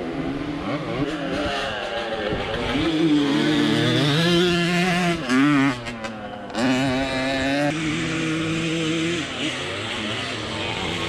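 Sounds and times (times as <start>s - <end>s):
scooter engine revving: 1.0s - 11.0s.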